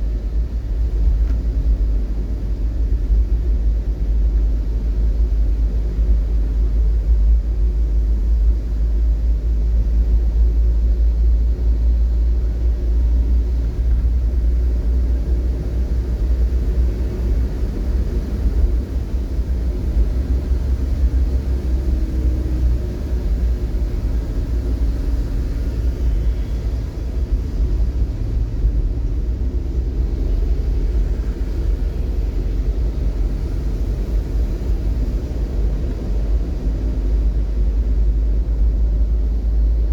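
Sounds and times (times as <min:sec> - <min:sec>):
faint engine hum: 0:00.0 - 0:39.9
vehicle rumble: 0:00.0 - 0:39.9.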